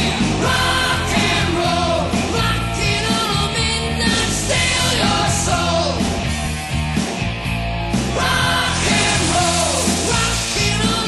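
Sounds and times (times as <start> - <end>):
rock music with singing: 0.0 - 11.0.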